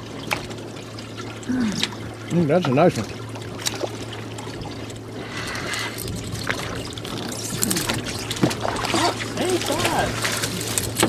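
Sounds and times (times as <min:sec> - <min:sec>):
steady low hum: 0:00.0 - 0:11.0
waves lapping against boat hull: 0:00.0 - 0:11.0.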